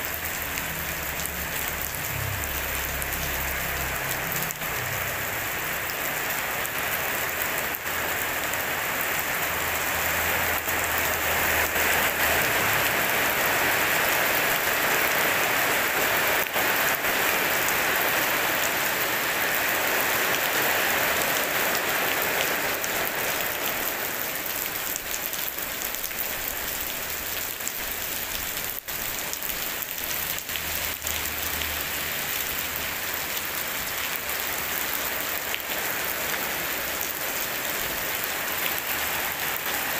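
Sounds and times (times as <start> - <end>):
heavy rain on paving and puddles: 0.0 - 39.9.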